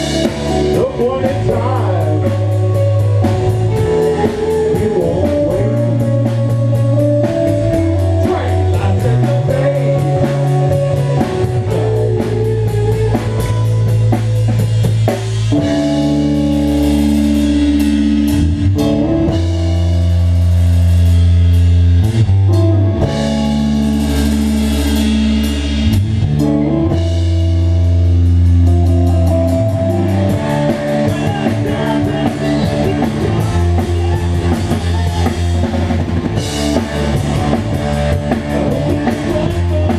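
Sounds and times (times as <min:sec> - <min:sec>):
drum kit with cymbal strikes: 0:00.0 - 0:39.9
electric bass: 0:00.0 - 0:39.9
electric guitar: 0:00.0 - 0:39.9.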